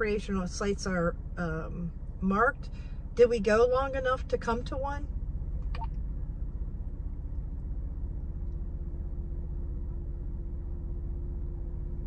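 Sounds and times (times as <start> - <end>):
faint even hum: 0.0 - 12.0
van engine rumble: 0.0 - 12.0.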